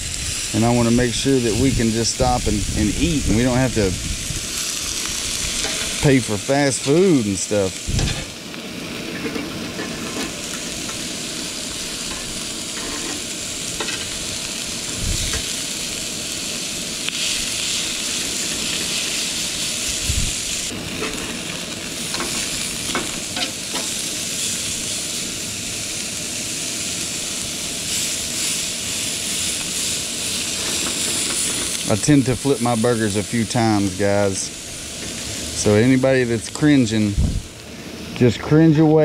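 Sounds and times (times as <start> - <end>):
burger patties sizzling on griddle: 0.0 - 39.0.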